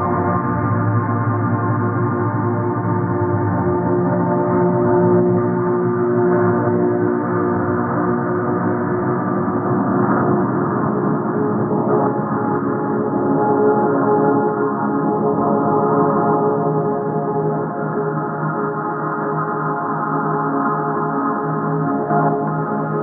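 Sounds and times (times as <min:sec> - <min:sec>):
gong-like ringing drone: 0:00.0 - 0:23.0.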